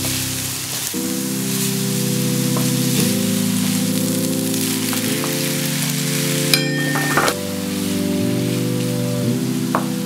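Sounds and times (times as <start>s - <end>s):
food sizzling in a pan: 0.0s - 10.0s
music of sustained chords: 0.0s - 10.0s.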